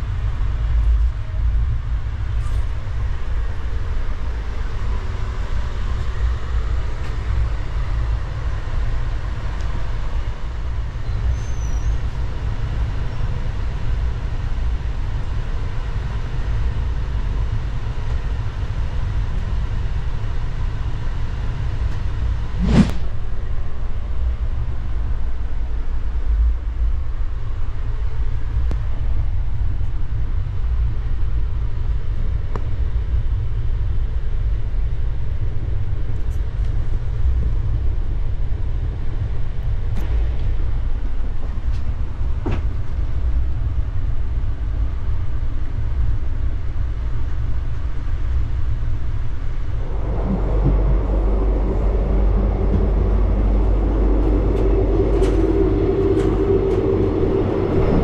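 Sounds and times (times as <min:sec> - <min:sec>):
train coach rumbling on track: 0:00.0 - 0:58.0.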